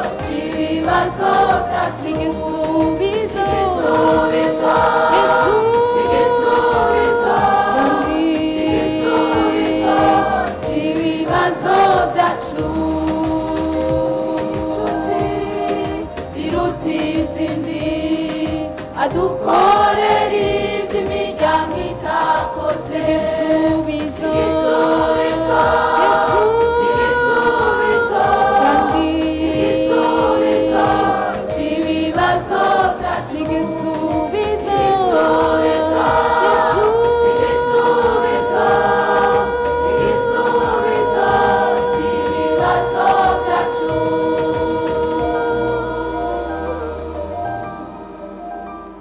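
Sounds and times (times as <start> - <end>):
choir singing a gospel song: 0.0 - 49.0.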